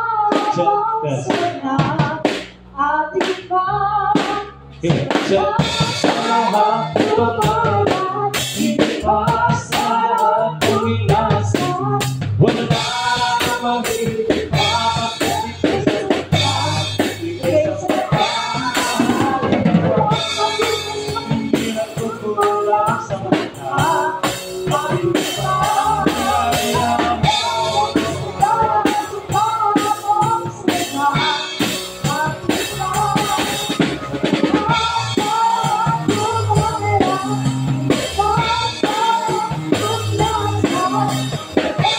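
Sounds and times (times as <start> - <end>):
drum kit playing: 0.0 - 41.9
live band melody: 0.0 - 41.9.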